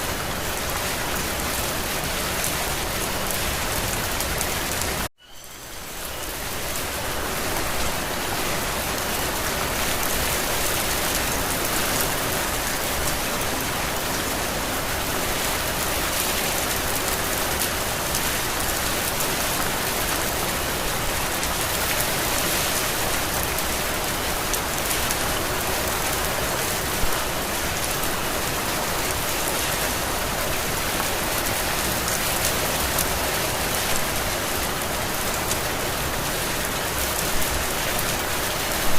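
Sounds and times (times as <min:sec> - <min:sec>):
heavy rain on foliage: 0:00.0 - 0:38.9.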